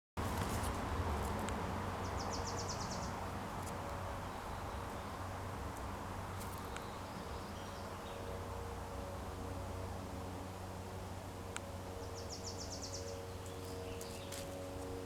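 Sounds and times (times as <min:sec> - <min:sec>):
low background noise: 0:00.2 - 0:15.0
songbird trill: 0:02.0 - 0:10.0, 0:10.6 - 0:15.0.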